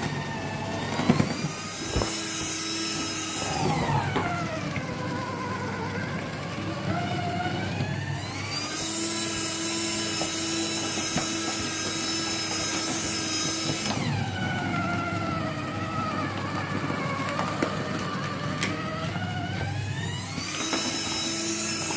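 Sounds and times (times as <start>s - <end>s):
paper shredder motor whining: 0.0s - 21.9s.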